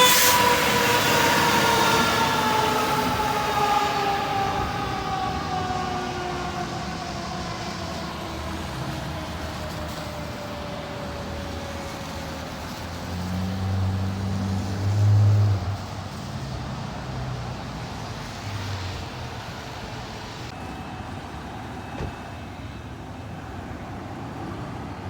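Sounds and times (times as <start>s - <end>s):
fire truck siren winding down: 0.0s - 20.7s.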